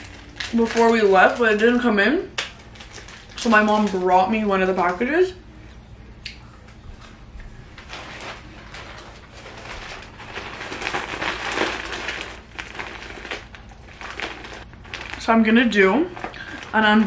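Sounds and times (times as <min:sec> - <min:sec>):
plastic bag crinkling: 0:00.0 - 0:05.0, 0:07.7 - 0:17.0.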